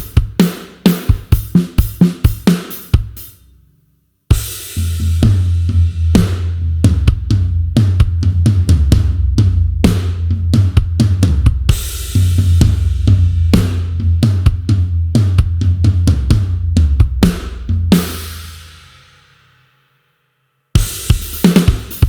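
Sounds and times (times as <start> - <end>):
rock drum kit groove: 0.0 - 3.5, 4.3 - 19.3, 20.8 - 22.0.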